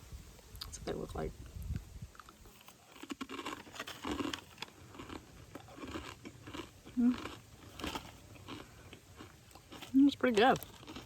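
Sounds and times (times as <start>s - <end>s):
person chewing crunchy food: 2.1s - 11.0s.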